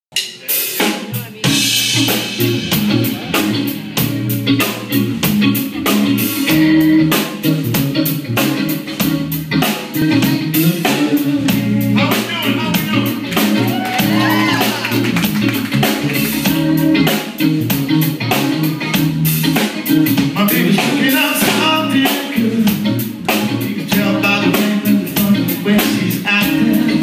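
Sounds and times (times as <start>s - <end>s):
drum kit beat: 0.1s - 27.0s
electric guitars: 0.3s - 27.0s.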